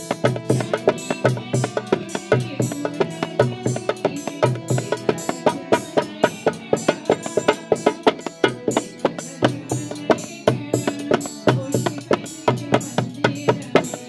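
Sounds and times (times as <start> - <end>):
hand drum fast rhythm: 0.0 - 14.0.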